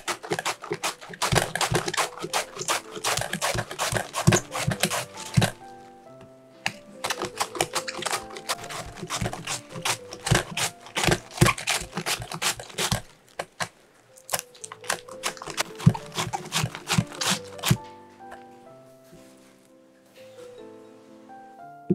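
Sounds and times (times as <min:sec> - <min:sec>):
cabbage crunching on mandoline slicer: 0:00.0 - 0:05.9, 0:06.6 - 0:18.5
light background music: 0:00.0 - 0:21.9.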